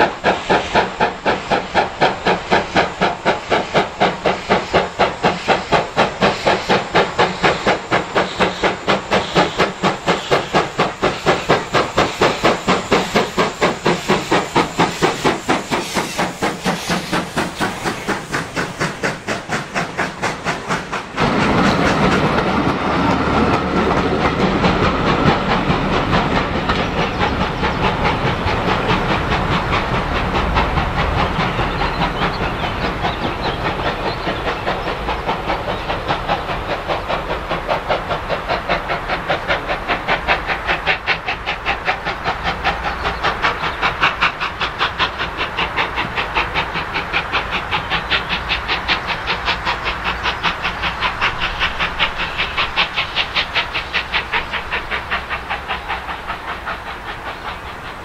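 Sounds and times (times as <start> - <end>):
steam locomotive chuffing: 0.0 - 58.0
train rumbling on rails: 0.0 - 58.0.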